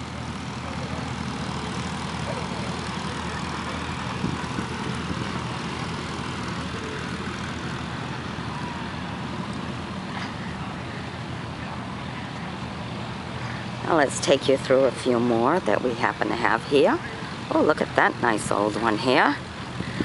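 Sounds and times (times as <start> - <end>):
low engine drone: 0.0 - 20.0
outdoor background noise: 0.0 - 20.0.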